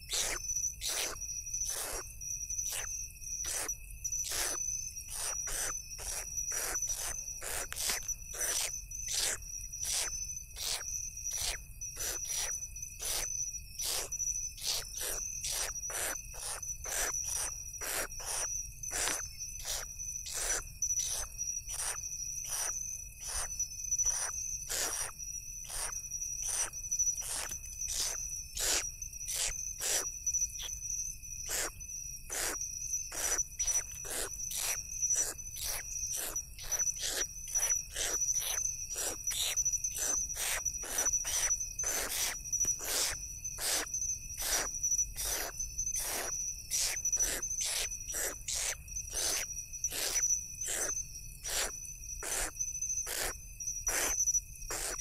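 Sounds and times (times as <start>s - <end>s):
crickets trilling: 0.0s - 55.0s
owl chicks hissing calls: 0.1s - 2.0s, 3.5s - 3.7s, 4.3s - 30.1s, 31.5s - 31.7s, 32.3s - 53.3s, 53.9s - 55.0s.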